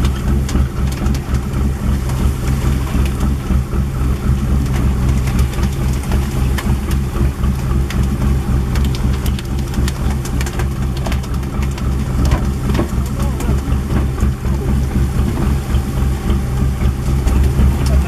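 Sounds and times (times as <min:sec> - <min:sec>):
boat engine humming: 0:00.0 - 0:18.0
water splashing: 0:00.0 - 0:18.0.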